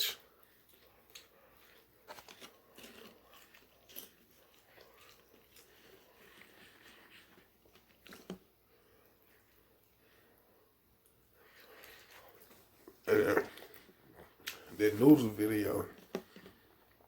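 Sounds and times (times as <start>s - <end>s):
man chewing food: 0.0s - 14.8s, 15.9s - 17.0s.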